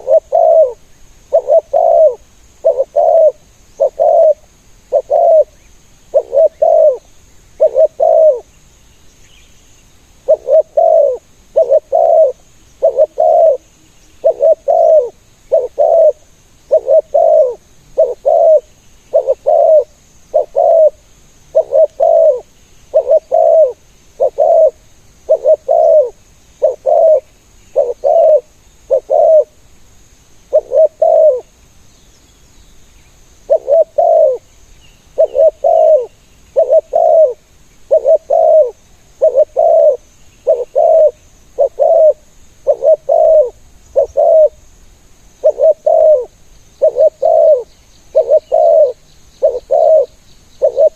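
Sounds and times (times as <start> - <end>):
dove cooing: 0.0 - 8.5, 10.2 - 29.6, 30.5 - 31.5, 33.5 - 34.5, 35.1 - 44.6, 45.4 - 50.9.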